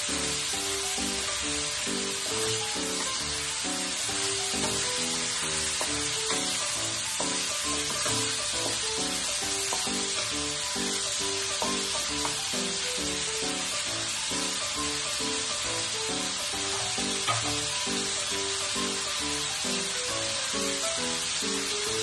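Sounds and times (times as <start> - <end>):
background music: 0.0 - 22.0
meat sizzling in oil: 0.0 - 22.0.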